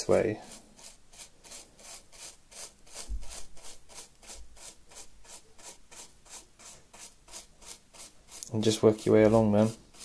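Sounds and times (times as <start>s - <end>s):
brush scratching through grit: 0.0s - 10.0s.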